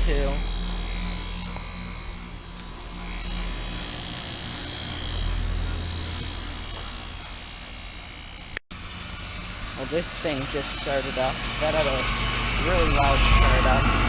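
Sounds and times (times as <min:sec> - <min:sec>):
compressor hum and buzz: 0:00.0 - 0:14.0
fan noise: 0:00.0 - 0:14.0.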